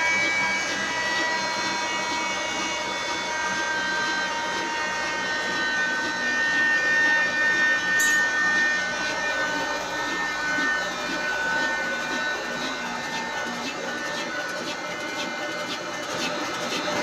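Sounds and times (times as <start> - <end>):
flour mill whining: 0.0 - 17.0.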